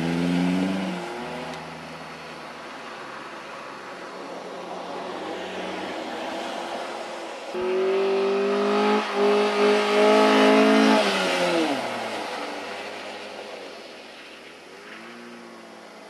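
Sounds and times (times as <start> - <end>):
car engine at high revs: 0.0 - 16.0.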